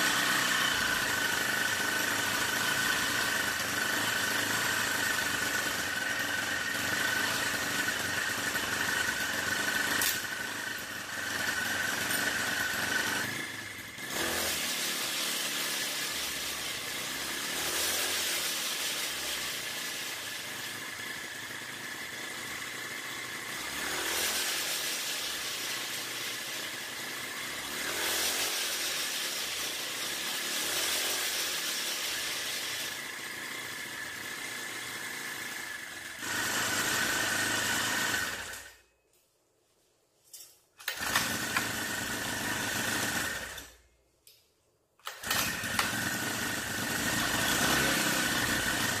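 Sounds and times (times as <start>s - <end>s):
small engine revving: 0.0s - 38.9s, 40.8s - 43.9s, 45.0s - 49.0s.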